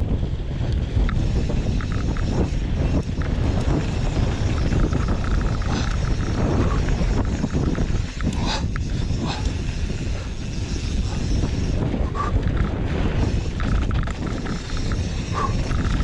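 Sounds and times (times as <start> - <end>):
bike clicking and clattering: 0.0 - 16.0
wind on microphone: 0.0 - 16.0
tyres rolling on dirt: 1.1 - 16.0.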